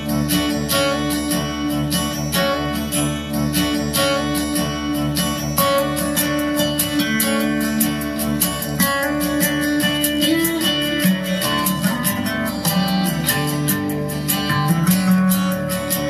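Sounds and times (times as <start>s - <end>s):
guitar-led music from speaker: 0.0s - 16.0s.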